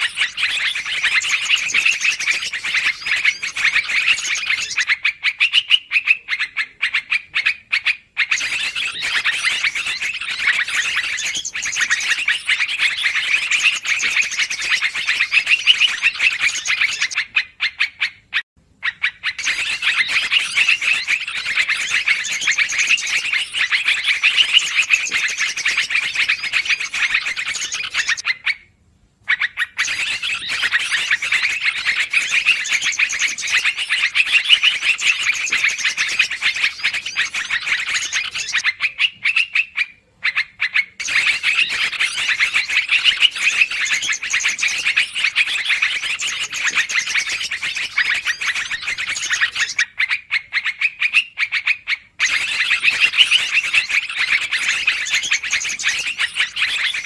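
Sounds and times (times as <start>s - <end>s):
bird chattering calls: 0.0s - 28.6s, 29.3s - 57.0s.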